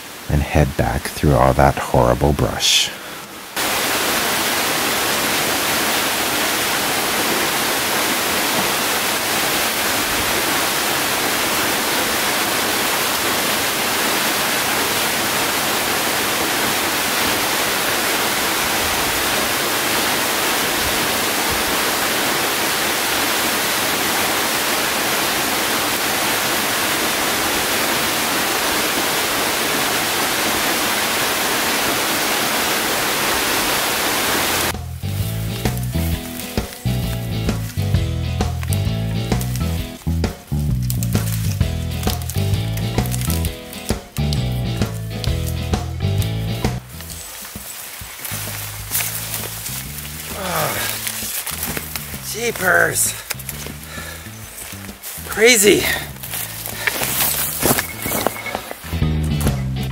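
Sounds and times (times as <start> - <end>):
falling water rushing: 0.0 - 59.9.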